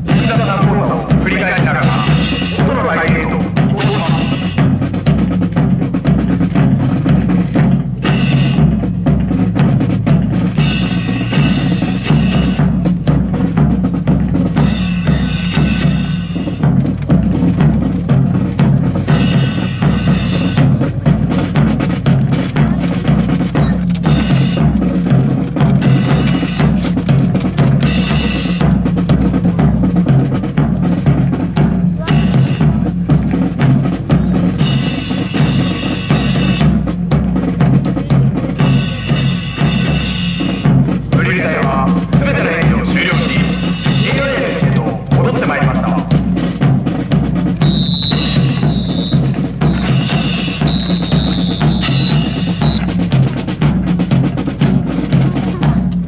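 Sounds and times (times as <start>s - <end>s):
marching bass and snare drums: 0.0s - 56.0s.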